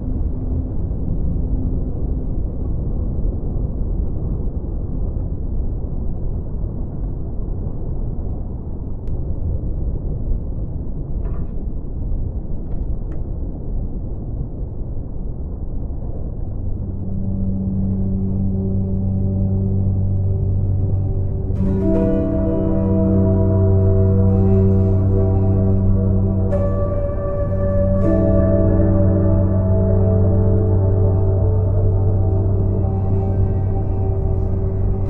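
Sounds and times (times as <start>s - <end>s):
muffled deep water noise: 0.0s - 35.0s.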